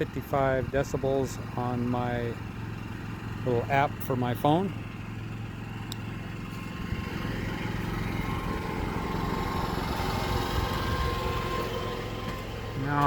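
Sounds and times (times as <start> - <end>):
generator running: 0.0 - 13.0.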